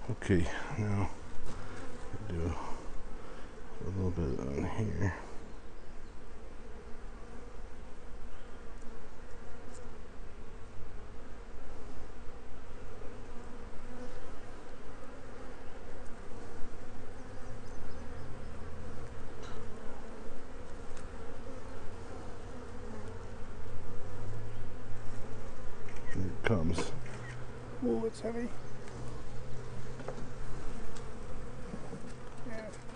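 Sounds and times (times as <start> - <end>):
bees buzzing: 0.0 - 32.9.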